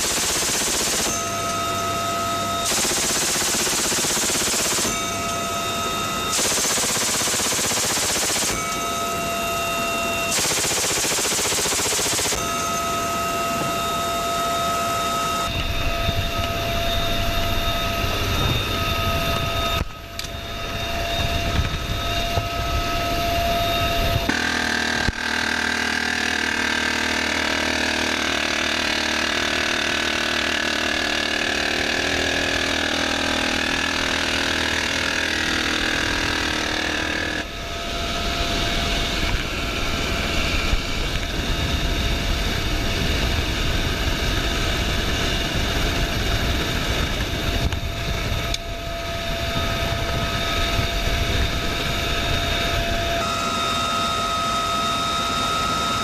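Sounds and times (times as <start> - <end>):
helicopter turbine and rotor: 0.0 - 56.0.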